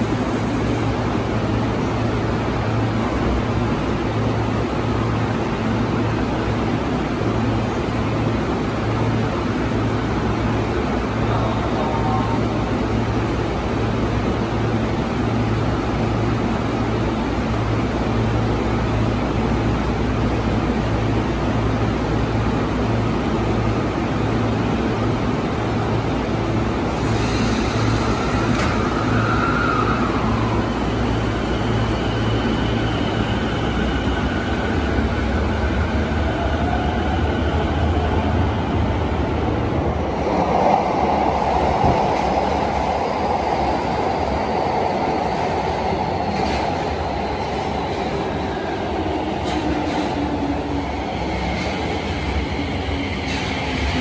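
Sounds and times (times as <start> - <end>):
subway train motors whining: 0.0 - 54.0.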